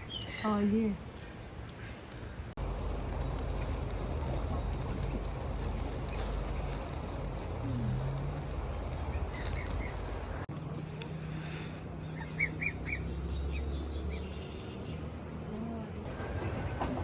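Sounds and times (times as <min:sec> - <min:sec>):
low background rumble: 0:02.2 - 0:16.6.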